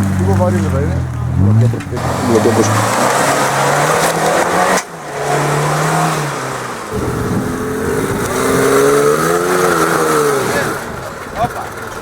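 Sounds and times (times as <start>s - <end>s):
off-road engine revving under load: 0.0s - 12.0s.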